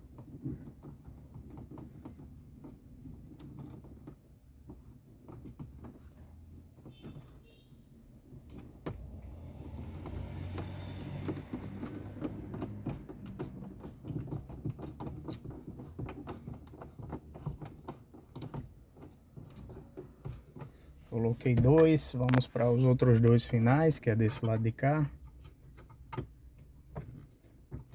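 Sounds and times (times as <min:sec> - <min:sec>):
small metallic clicks and scrapes: 0:00.0 - 0:07.6, 0:09.7 - 0:27.9.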